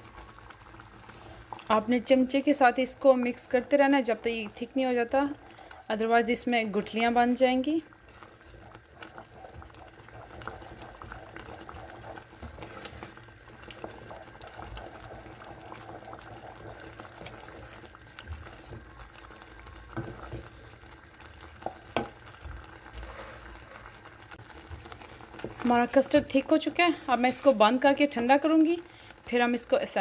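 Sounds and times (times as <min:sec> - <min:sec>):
custard bubbling in saucepan: 0:00.0 - 0:30.0
wooden spoon stirring: 0:04.3 - 0:29.7.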